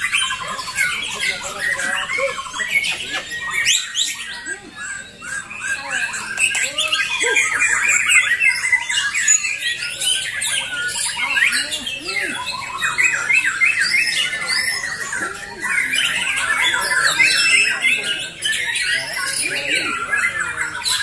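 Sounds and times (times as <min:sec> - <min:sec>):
many songbirds whistling: 0:00.0 - 0:21.0.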